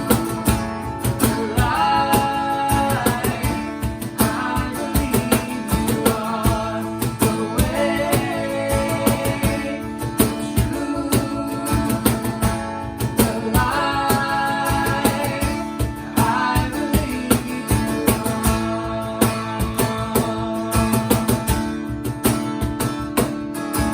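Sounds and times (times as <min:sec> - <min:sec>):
steady drum beat: 0:00.0 - 0:23.6
strummed acoustic guitar: 0:00.0 - 0:23.9
person singing: 0:01.2 - 0:21.2.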